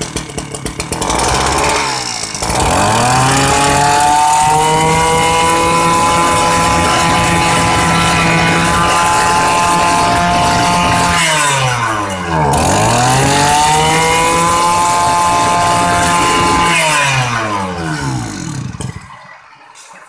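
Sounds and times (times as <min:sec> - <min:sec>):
brush-cutter engine revving: 0:00.0 - 0:19.2.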